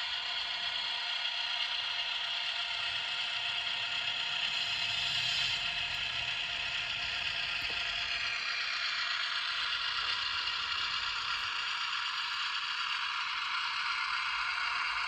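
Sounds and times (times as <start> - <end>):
faint mechanical rattle: 0.0 - 15.0
model train motor whirring: 0.0 - 15.0.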